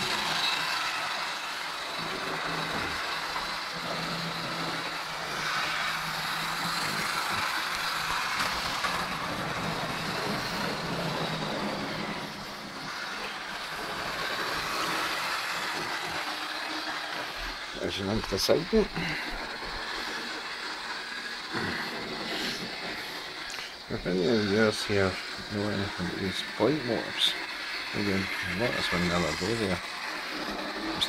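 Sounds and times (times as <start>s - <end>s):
electric motor hum: 0.0s - 31.0s.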